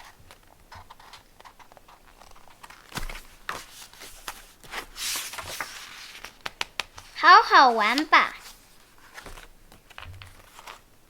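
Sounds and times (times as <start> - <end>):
page turning rustle: 0.0 - 10.9.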